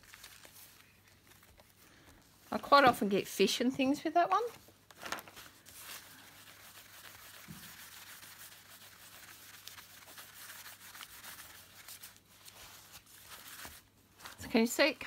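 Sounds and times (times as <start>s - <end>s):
tissue paper rubbing on wax: 0.0s - 15.0s.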